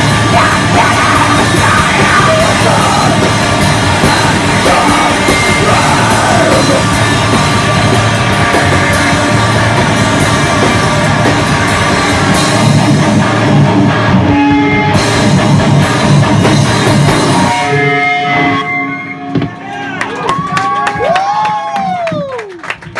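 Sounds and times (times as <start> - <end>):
drum kit pounding: 0.0 - 18.5, 19.3 - 22.9
distorted electric guitars: 0.0 - 19.9.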